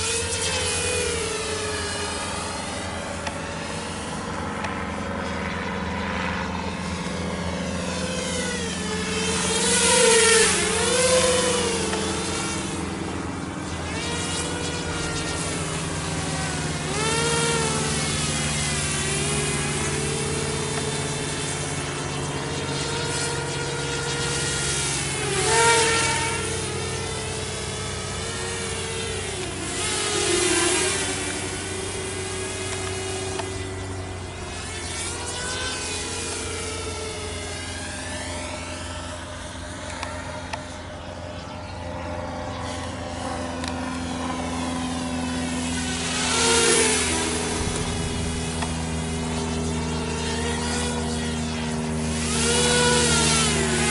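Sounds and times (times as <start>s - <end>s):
quadcopter motors buzzing: 0.0s - 53.9s.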